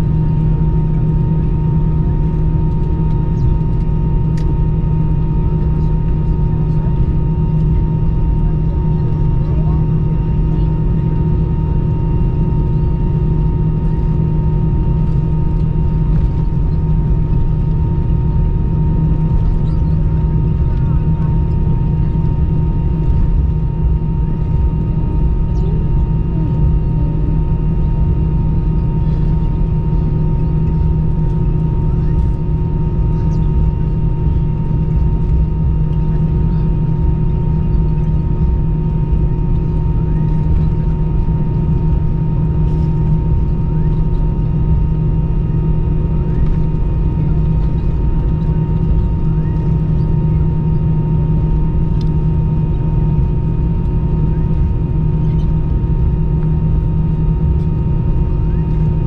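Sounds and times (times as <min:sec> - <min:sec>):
aircraft cabin low rumble: 0:00.0 - 0:59.0.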